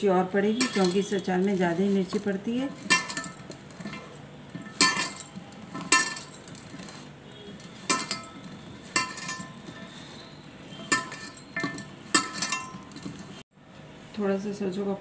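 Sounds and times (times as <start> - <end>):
steel bowl clinking: 0.4 - 13.4.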